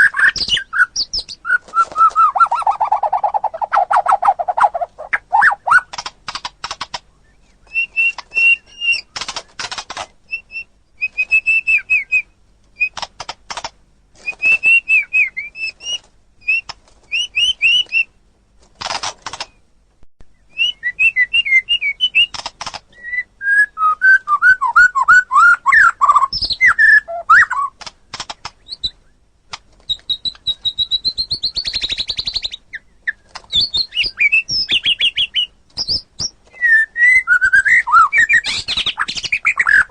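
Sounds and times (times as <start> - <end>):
bird singing varied song: 0.0 - 6.0, 7.1 - 13.0, 14.2 - 18.2, 19.3 - 29.2, 29.8 - 39.9.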